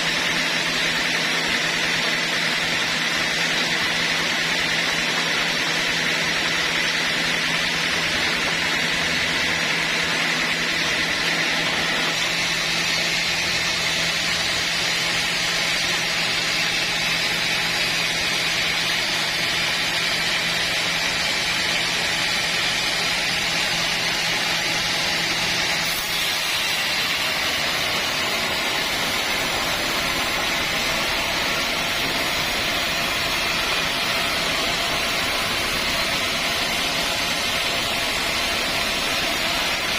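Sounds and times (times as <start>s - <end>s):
sawmill running: 0.0s - 39.9s.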